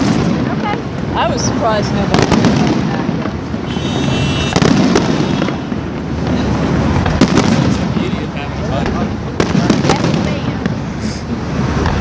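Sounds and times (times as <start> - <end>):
firework whistling: 0.0 - 0.6, 1.2 - 12.0
fireworks bangs and crackle: 0.0 - 12.0.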